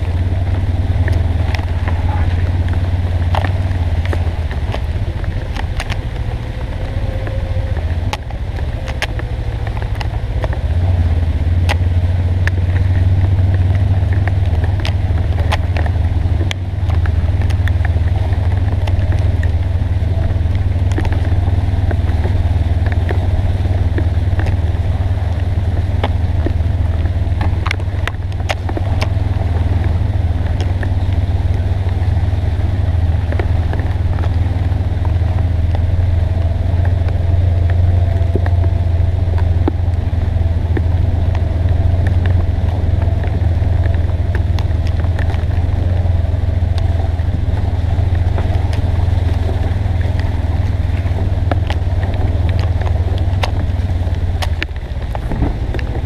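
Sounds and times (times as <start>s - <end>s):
sharp ticks and clicks: 0.0s - 56.0s
vehicle engine droning: 0.0s - 56.0s.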